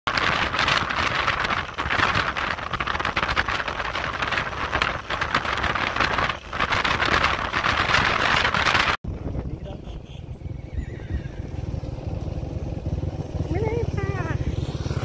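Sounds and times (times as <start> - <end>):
wind rushing over microphone: 0.1 - 15.0.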